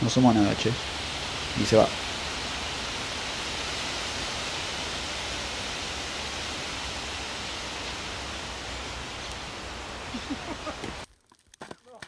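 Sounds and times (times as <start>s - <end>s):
wind through tree leaves: 0.0s - 11.2s.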